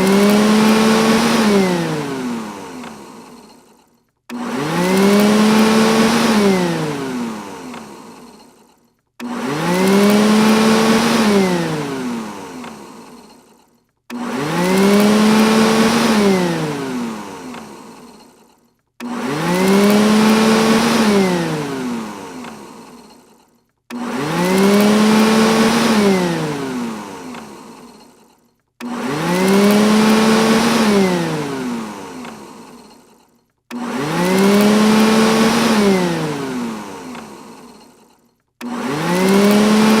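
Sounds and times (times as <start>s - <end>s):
robot vacuum motor whirring: 0.0s - 40.0s.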